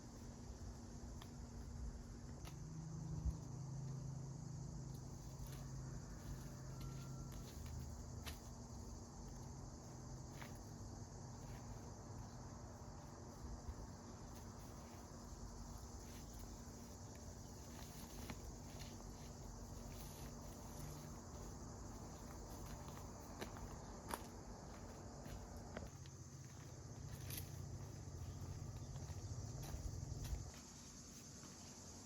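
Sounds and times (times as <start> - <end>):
insects chirring: 0.0 - 32.0
low steady hum: 0.0 - 32.0.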